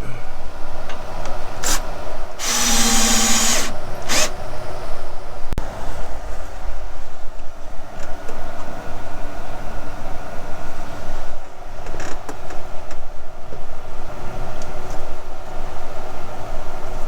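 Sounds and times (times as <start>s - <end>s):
loud mechanical hum: 0.0s - 17.0s.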